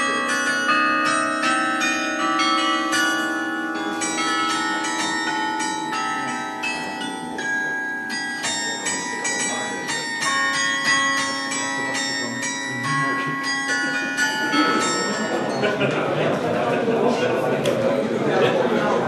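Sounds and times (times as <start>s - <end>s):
carillon bells playing melody: 0.0s - 17.1s.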